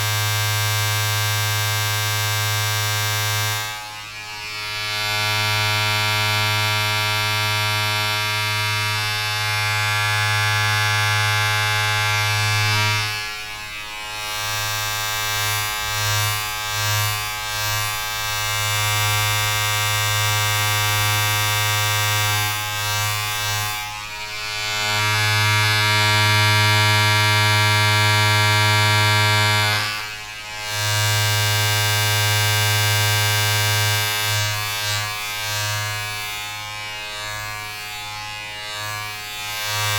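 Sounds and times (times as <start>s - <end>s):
steady electric buzz: 0.0s - 39.9s.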